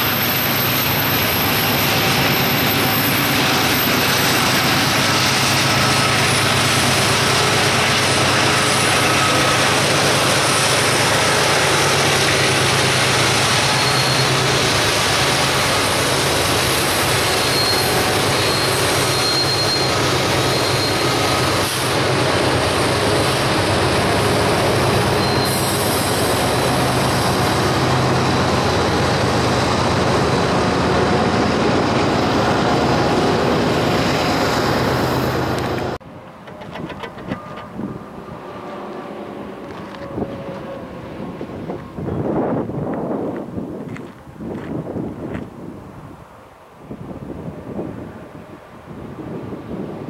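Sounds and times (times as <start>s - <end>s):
high wheel squeal: 0.0s - 42.5s
diesel locomotive drone: 0.0s - 50.0s
freight cars rumbling over rails: 0.0s - 50.0s.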